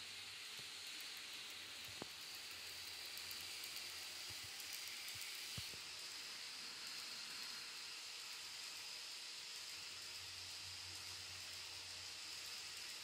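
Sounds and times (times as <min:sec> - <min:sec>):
model train wheels hissing: 0:00.0 - 0:13.0.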